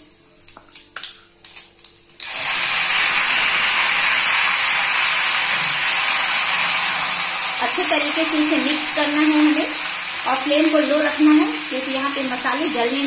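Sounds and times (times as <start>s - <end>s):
paste sizzling in hot oil: 2.2s - 13.0s.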